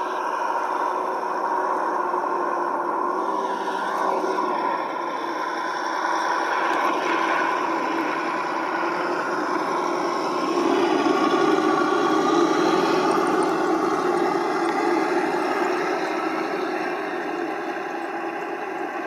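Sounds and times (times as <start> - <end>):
simulated truck engine through speaker: 0.0 - 19.0.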